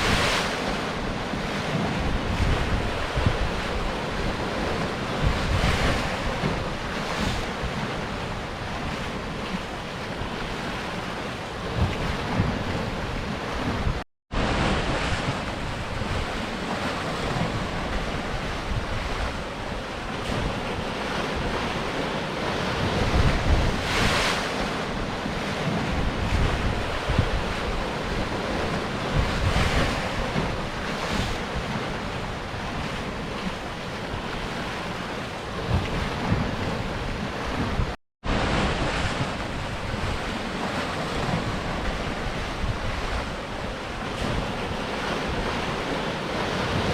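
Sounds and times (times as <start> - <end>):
surf washing against rocks: 0.0 - 46.9
wind rumbling on microphone: 0.0 - 46.9.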